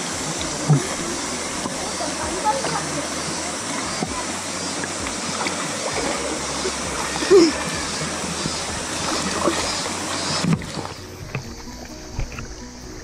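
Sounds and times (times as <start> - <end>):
stream rushing: 0.0 - 13.0
water sloshing and splashing: 0.0 - 13.0.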